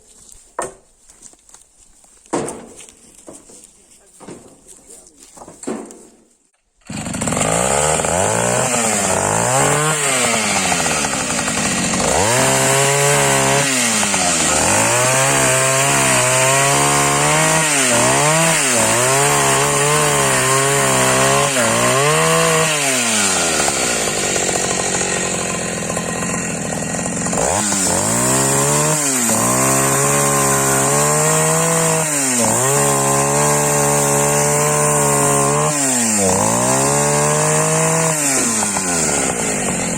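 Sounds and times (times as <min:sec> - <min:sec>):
chainsaw cutting firewood: 0:02.2 - 0:39.9.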